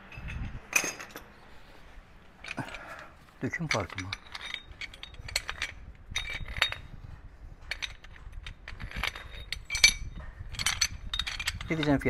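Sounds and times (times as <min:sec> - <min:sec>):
metal hardware clinking: 0:00.0 - 0:01.4, 0:02.4 - 0:07.0, 0:07.6 - 0:12.0.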